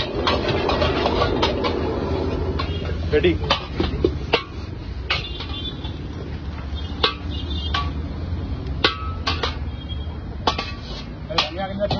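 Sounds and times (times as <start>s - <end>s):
ladle clanking against wok: 0.0s - 11.9s.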